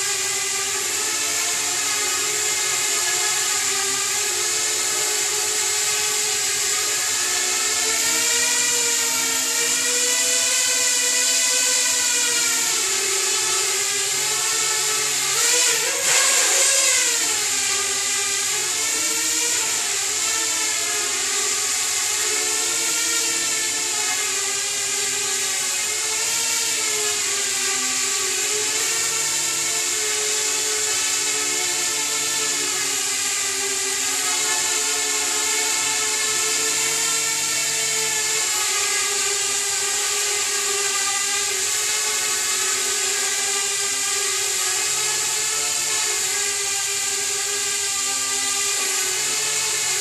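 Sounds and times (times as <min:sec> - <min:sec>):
drone propellers whining: 0:00.0 - 0:44.1.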